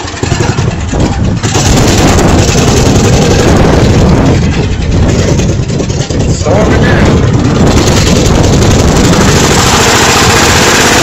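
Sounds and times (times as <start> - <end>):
rough small vehicle engine running: 0.0 - 11.0.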